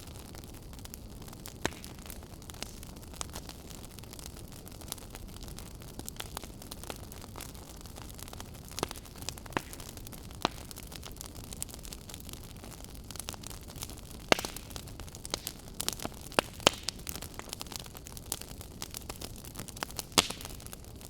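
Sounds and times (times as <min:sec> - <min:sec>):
rumble and hiss of flames: 0:00.0 - 0:21.0
wood fire crackling and popping: 0:00.0 - 0:21.0.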